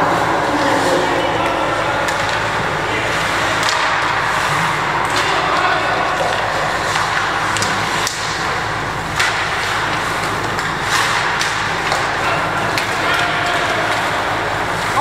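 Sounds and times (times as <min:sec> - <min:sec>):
hockey sticks clacking: 0:00.1 - 0:15.0
skates scraping ice: 0:00.1 - 0:15.0.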